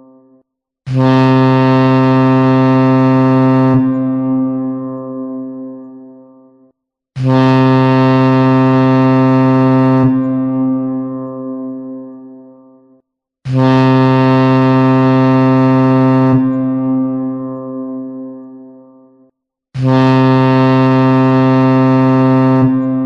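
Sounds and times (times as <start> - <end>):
low boat horn blasts: 0.0 - 6.6, 7.2 - 12.6, 13.5 - 19.2, 19.8 - 23.0.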